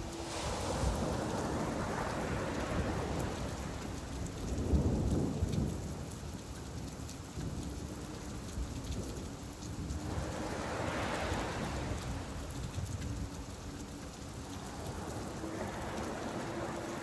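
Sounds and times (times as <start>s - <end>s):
waves washing in: 0.0s - 6.9s, 8.1s - 17.0s
steady rain falling: 0.0s - 17.0s.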